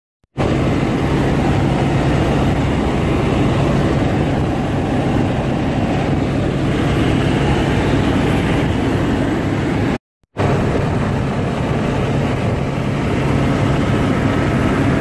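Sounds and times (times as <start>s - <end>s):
helicopter engine and rotor noise: 0.4s - 15.0s.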